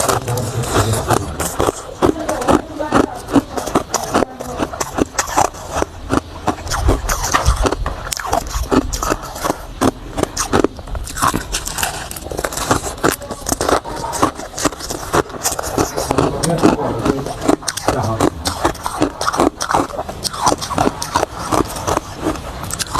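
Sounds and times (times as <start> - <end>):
ice being chewed: 0.0 - 22.9.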